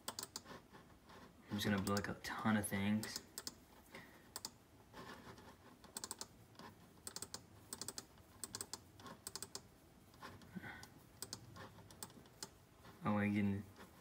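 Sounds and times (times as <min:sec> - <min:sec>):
faint keyboard typing: 0:00.0 - 0:14.0.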